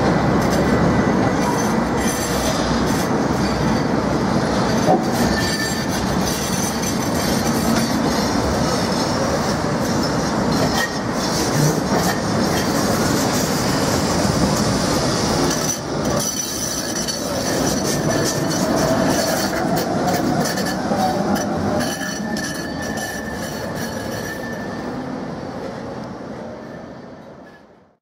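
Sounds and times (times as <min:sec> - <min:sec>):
tram rumble and rattle: 0:00.0 - 0:28.0
tram wheels squealing on rails: 0:00.0 - 0:28.0.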